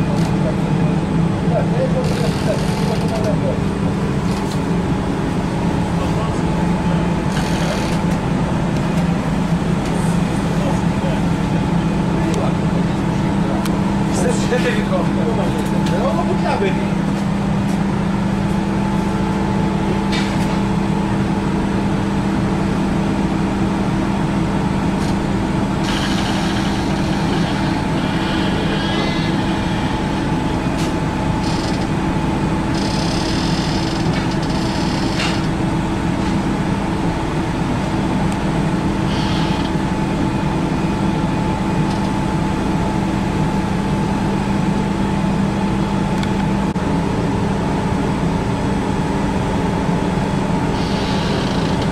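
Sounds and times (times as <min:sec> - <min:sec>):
machinery hum: 0:00.0 - 0:51.9.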